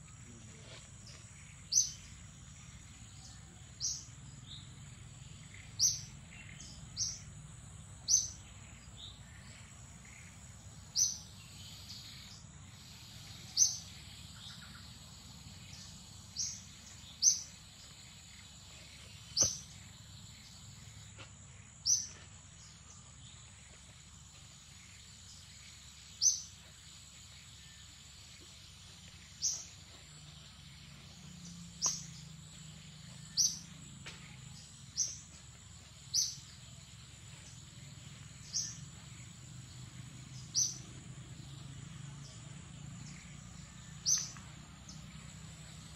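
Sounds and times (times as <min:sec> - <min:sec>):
bird chirping: 0:00.0 - 0:45.9
insect whine: 0:00.0 - 0:45.9.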